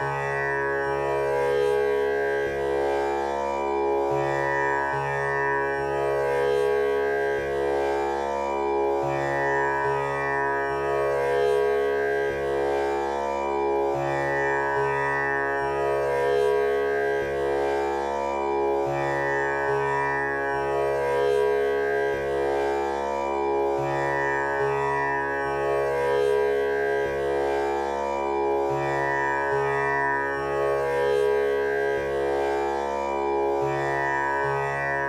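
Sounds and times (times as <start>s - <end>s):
tanpura drone: 0.0s - 35.0s.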